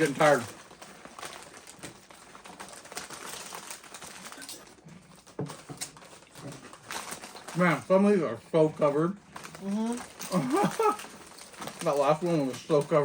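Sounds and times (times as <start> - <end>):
chips crunching while chewed: 0.0 - 7.9, 9.2 - 13.0.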